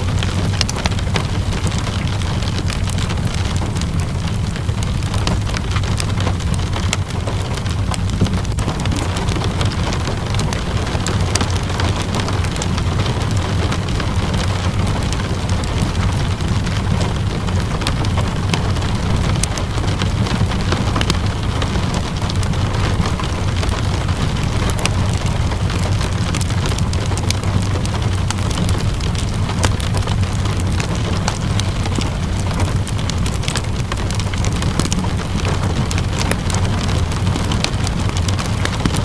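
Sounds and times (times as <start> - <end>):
steady rain: 0.0 - 39.0
wood fire crackling: 0.0 - 39.0.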